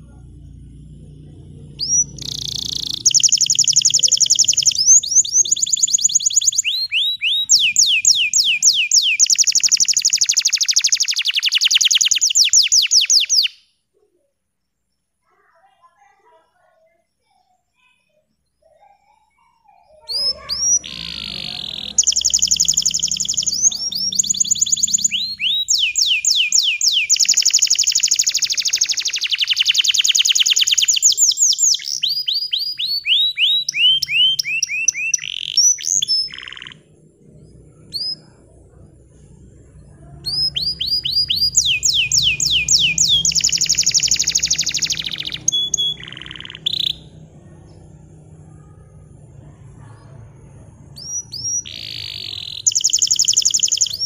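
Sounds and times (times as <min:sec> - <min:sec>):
canary singing trills: 0:00.0 - 0:14.0, 0:16.3 - 0:54.0.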